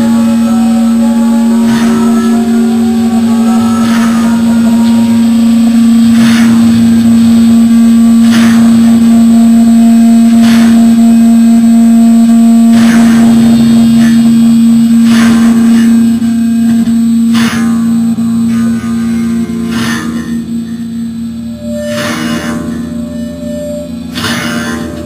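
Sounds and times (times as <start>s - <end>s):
distorted guitar drone: 0.0s - 25.0s
sharp crashing hit: 0.0s - 25.0s.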